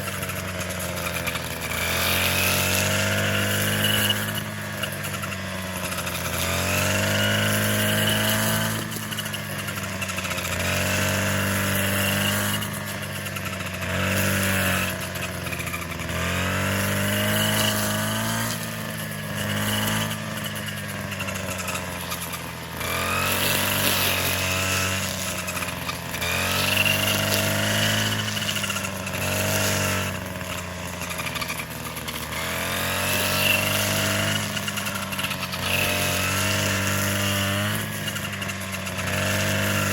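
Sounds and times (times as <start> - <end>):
small engine revving under load: 0.0 - 39.9.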